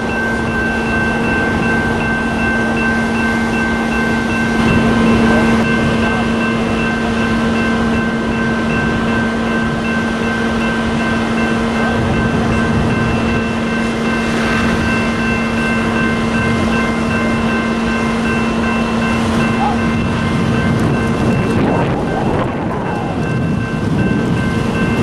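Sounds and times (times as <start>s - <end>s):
heavy engine whining: 0.0s - 25.0s.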